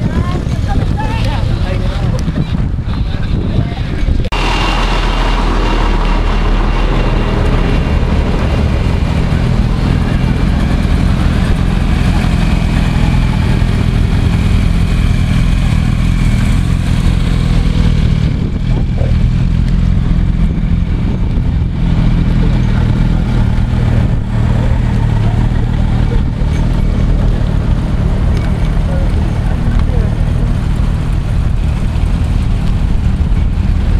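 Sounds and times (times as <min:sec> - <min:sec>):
vehicles driving slowly past: 0:00.0 - 0:33.9.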